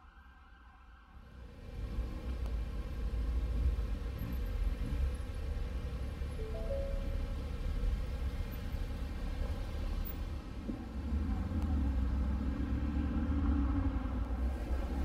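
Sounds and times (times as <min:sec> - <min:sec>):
truck engine and tyres rumbling: 0:01.2 - 0:15.0.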